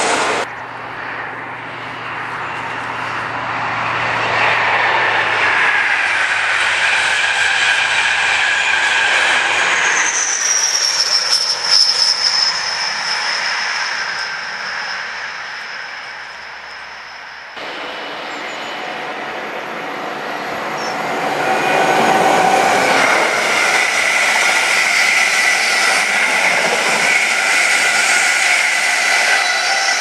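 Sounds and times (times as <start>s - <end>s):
high whine: 0.0s - 30.0s
train passing at speed: 0.0s - 30.0s.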